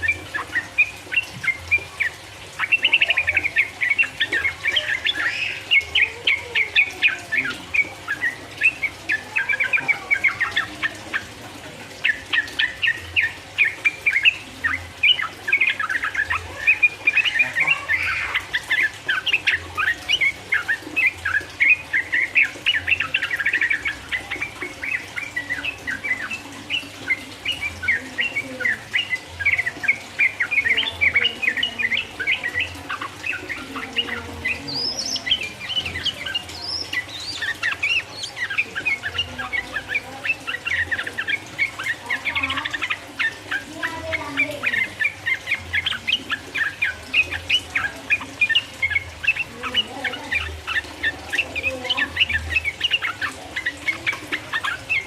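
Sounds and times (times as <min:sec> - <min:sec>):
bulbul chattering song: 0:00.0 - 0:55.0.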